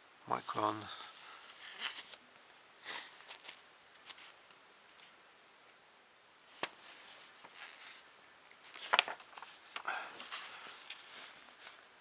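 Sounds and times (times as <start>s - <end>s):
soft rustles: 0.4s - 2.2s, 2.8s - 5.2s, 6.5s - 12.0s.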